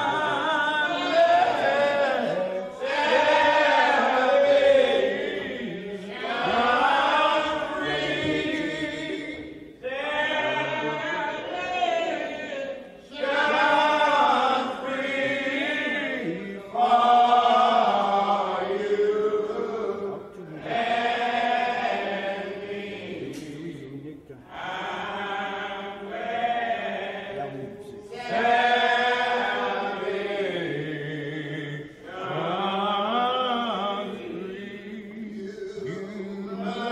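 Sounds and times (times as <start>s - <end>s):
men singing a hymn: 0.0s - 36.9s.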